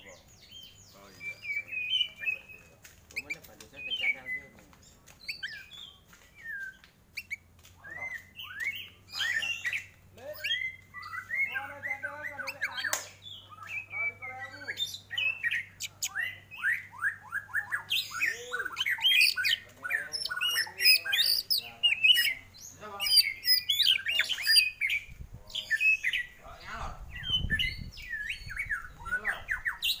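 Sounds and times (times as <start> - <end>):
bird singing varied song: 0.0 - 30.0.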